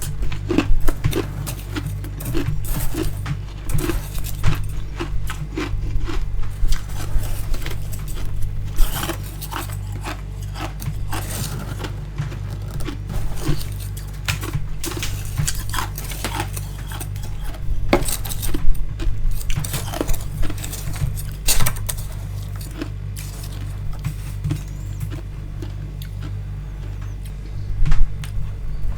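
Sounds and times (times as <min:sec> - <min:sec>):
frost being chewed: 0:00.0 - 0:27.4
steady low hum: 0:00.0 - 0:28.9.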